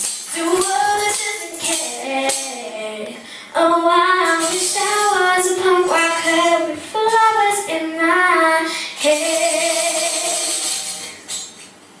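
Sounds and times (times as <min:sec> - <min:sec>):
girl singing into a microphone: 0:00.3 - 0:11.0.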